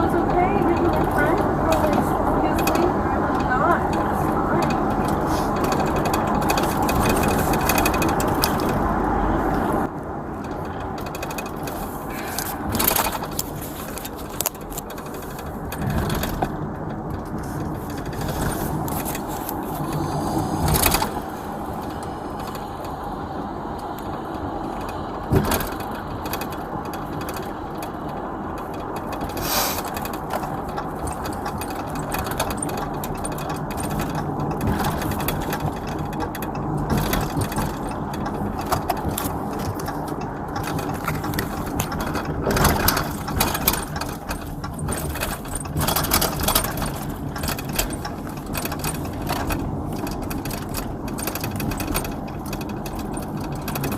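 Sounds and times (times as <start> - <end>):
sharp clicks and knocks: 0.0 - 23.1, 23.7 - 53.9
engine and road noise: 0.0 - 53.9.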